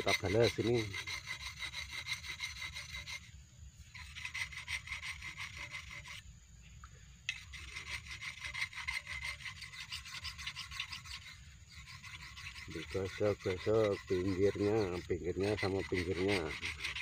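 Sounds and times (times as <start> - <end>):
knife scraping on stone: 0.0 - 3.3, 3.9 - 6.2, 7.3 - 17.0.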